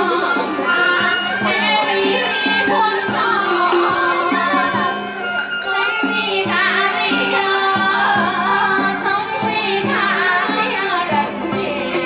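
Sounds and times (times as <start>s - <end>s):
traditional instruments playing: 0.0s - 12.0s
women singing a folk song: 0.0s - 12.0s.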